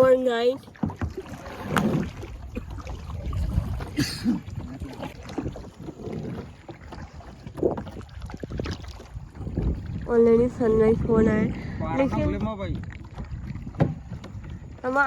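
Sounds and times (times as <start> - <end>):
paddle knocking against hull: 0.0 - 15.0
paddle splashes: 0.0 - 15.0
wind rumbling on microphone: 0.0 - 15.0.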